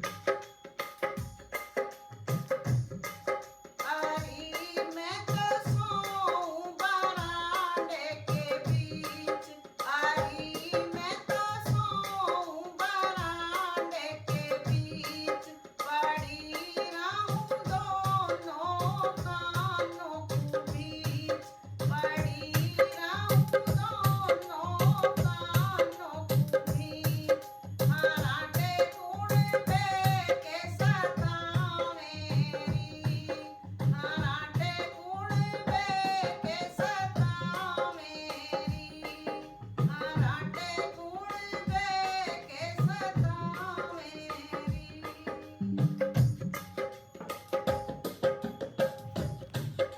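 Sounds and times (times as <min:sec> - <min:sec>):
hand drum beat: 0:00.0 - 0:49.9
woman singing folk song: 0:03.8 - 0:45.6.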